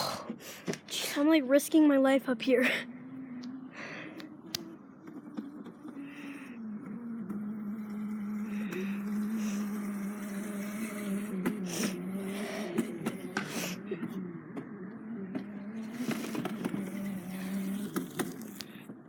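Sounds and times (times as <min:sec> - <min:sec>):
small motor humming: 0:01.6 - 0:19.0.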